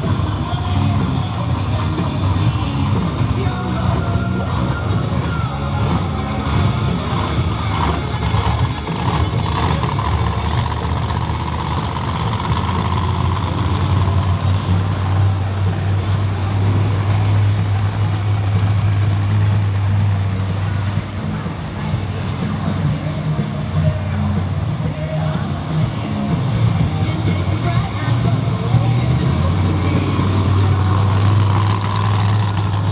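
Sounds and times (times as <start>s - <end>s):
monster truck engines revving: 0.0s - 32.9s.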